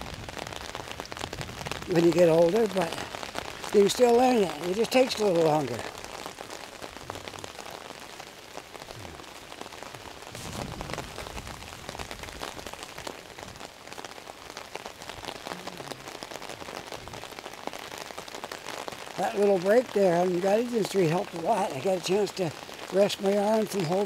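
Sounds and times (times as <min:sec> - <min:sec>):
heavy rain pattering: 0:00.0 - 0:24.0.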